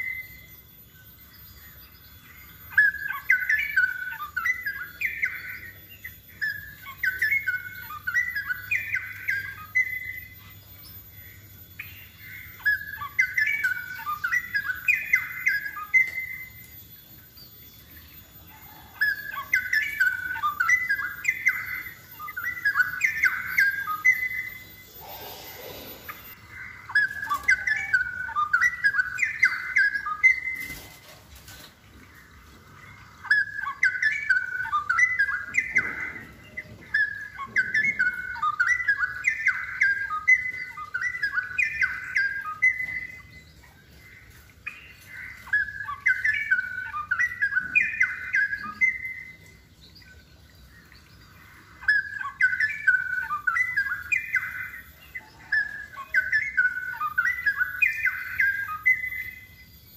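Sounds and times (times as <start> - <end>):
songbird warbling: 0.0 - 59.9.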